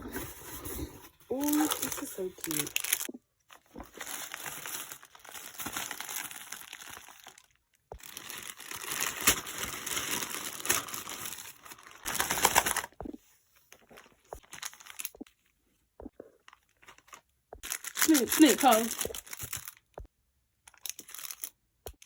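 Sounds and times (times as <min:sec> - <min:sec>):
packaging crinkling: 0:01.4 - 0:13.0, 0:13.8 - 0:15.2, 0:16.5 - 0:19.9, 0:20.7 - 0:22.0.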